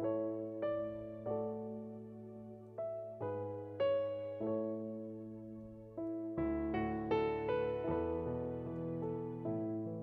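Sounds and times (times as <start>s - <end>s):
piano playing slow chords: 0.0s - 10.0s.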